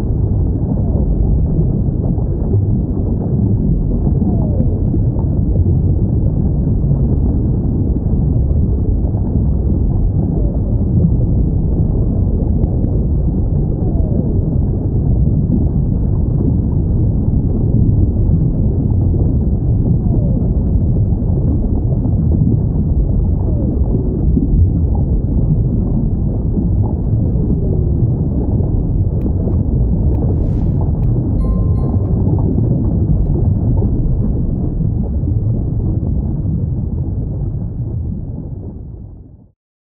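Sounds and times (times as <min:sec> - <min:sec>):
low underwater rumble: 0:00.0 - 0:39.5.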